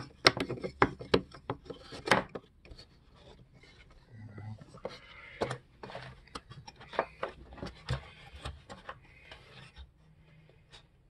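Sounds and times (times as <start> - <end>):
wooden frames knocking and scraping: 0.0 - 4.0, 4.6 - 9.9.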